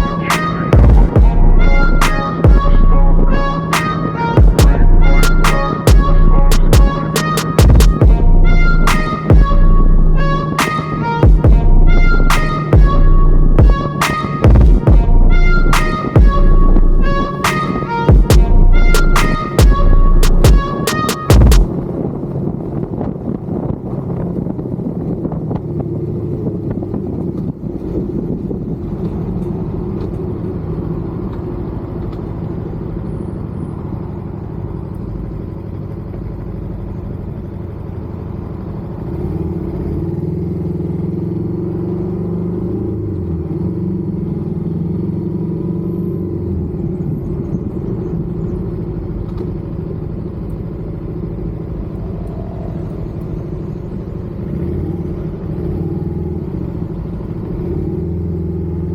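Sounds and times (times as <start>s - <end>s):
motorcycle engine running: 0.0s - 58.9s
road and wind noise: 0.0s - 58.9s.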